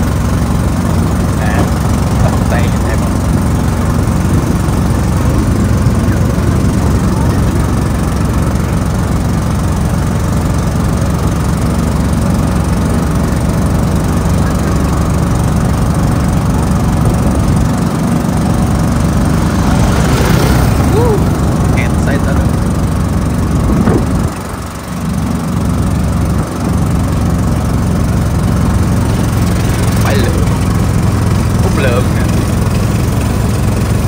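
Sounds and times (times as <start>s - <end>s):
small cart engine running: 0.0s - 34.0s.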